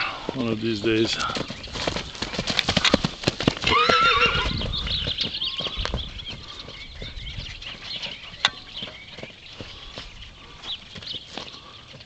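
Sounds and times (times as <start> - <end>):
horse hoofbeats cantering: 0.3 - 12.0.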